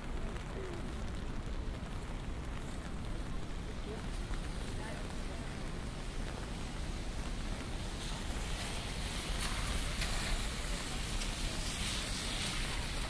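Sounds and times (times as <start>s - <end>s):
low traffic rumble: 0.0s - 13.0s
rain hiss: 0.0s - 13.0s
tyres on wet road: 0.0s - 13.0s.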